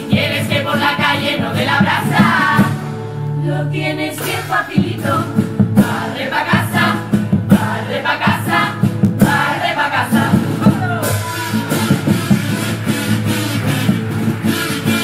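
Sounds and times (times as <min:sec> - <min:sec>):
music with a steady beat: 0:00.0 - 0:03.4, 0:04.2 - 0:15.0
group of voices singing: 0:00.0 - 0:12.6.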